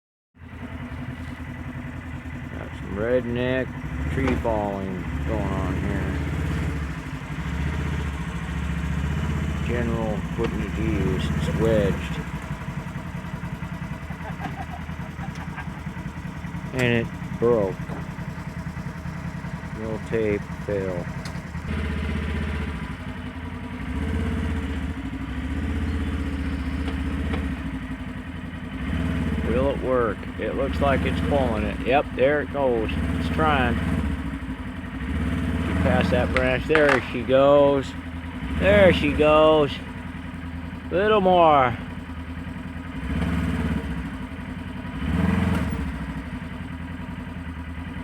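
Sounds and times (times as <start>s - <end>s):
vehicle engine running: 0.4s - 48.0s.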